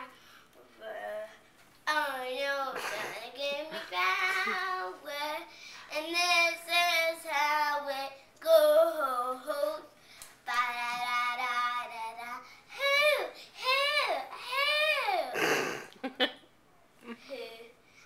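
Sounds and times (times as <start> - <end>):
girl singing unaccompanied: 0.0 - 15.4.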